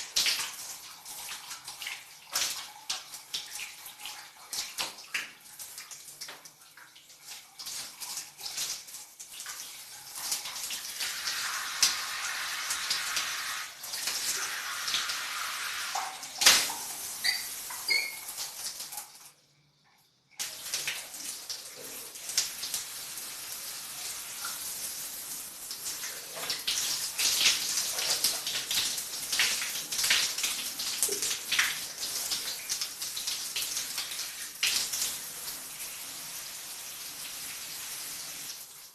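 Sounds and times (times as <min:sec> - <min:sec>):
shower water splattering: 0:00.0 - 0:19.3, 0:20.3 - 0:38.9.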